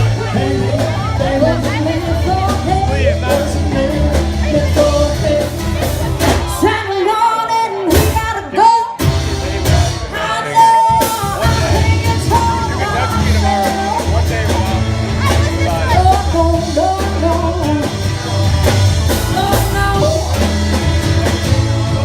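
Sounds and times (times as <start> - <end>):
bass guitar: 0.0 - 22.0
guitar: 0.0 - 22.0
person singing: 0.0 - 22.0.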